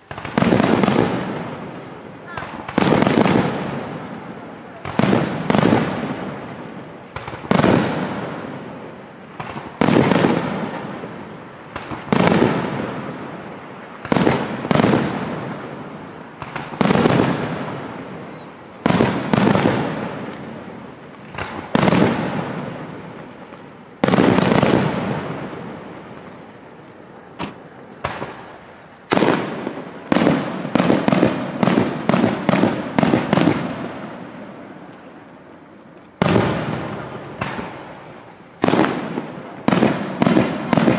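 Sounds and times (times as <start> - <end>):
firework shells bursting: 0.0 - 26.5, 27.3 - 35.3.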